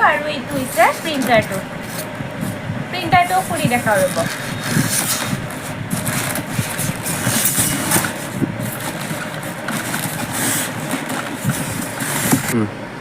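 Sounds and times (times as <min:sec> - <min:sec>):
rustling and scraping of handling: 0:00.0 - 0:12.6.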